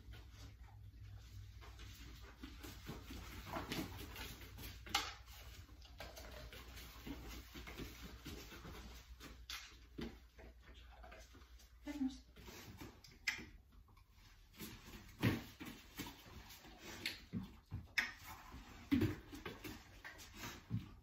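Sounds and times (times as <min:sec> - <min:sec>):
dog paws pattering on foam mats: 0:00.0 - 0:21.0.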